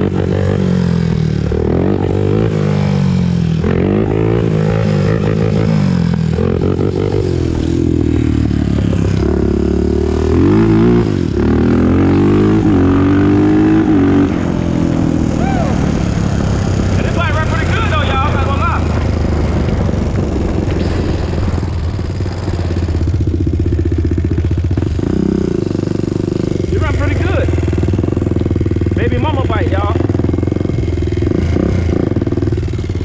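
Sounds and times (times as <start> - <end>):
atv engine accelerating: 0.0 - 33.0.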